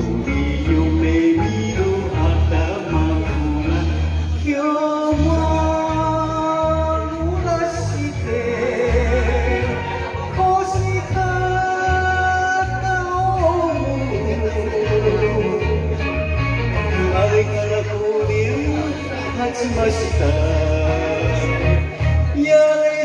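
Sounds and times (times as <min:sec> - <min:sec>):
backing track with bass pulse: 0:00.0 - 0:23.0
man singing into microphone: 0:00.0 - 0:23.0.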